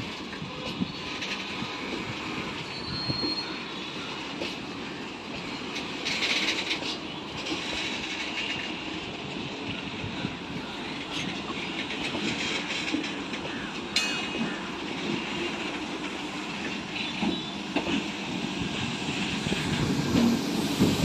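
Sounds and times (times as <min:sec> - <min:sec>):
train running on rails: 0:00.0 - 0:21.0
train wheels squealing: 0:00.5 - 0:21.0.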